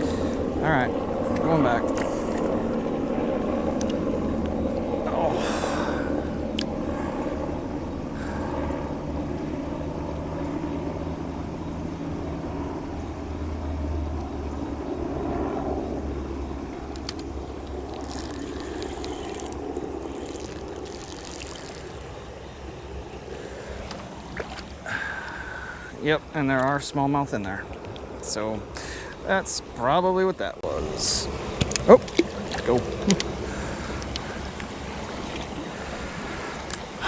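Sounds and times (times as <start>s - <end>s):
distant engine drone: 0.0s - 37.0s.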